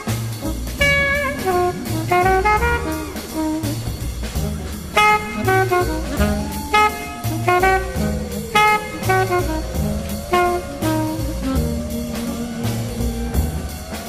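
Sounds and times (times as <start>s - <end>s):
jazz tune with brass and drums: 0.0s - 14.0s.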